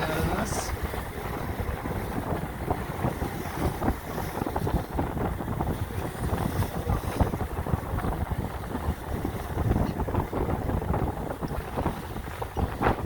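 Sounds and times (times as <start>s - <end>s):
boat rushing through water: 0.0s - 13.0s
wind buffeting microphone: 0.0s - 13.0s.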